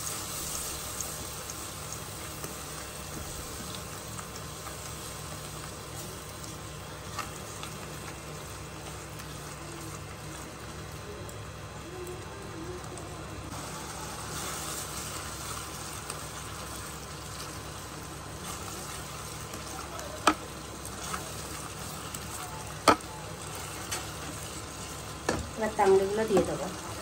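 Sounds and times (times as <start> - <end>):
masala sizzling in pan: 0.0 - 27.0.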